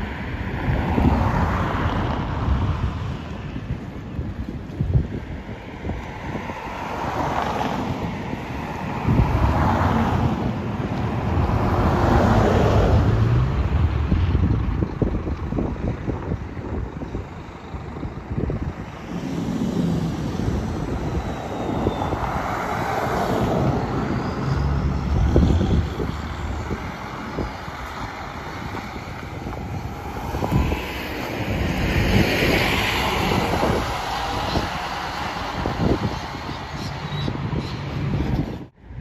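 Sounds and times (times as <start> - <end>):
bus engine hum: 0.0 - 39.0
wind buffeting microphone: 0.0 - 39.0.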